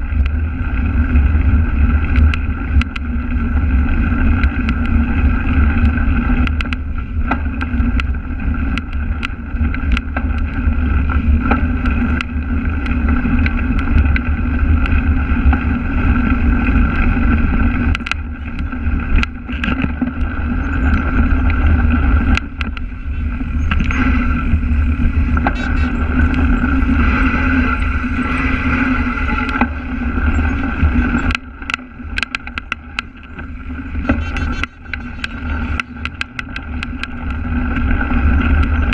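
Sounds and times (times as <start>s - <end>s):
wind buffeting microphone: 0.0s - 38.9s
bike clicks and knocks: 1.0s - 38.9s.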